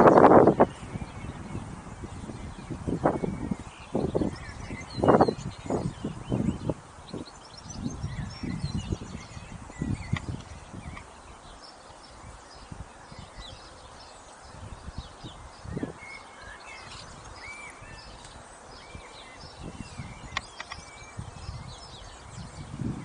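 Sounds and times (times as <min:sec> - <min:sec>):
small birds chirping and singing: 0:00.0 - 0:23.0.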